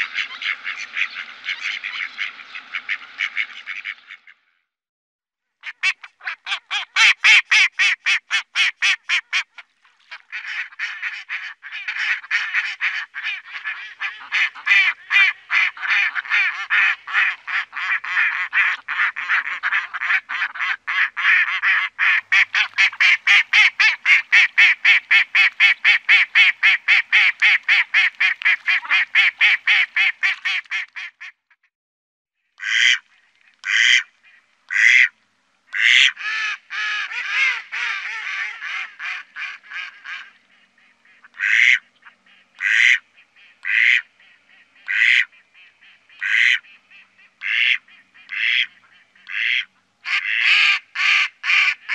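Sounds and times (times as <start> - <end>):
duck quacking: 0.0 - 4.4, 5.6 - 31.4, 32.6 - 33.0, 33.6 - 35.1, 35.7 - 51.9.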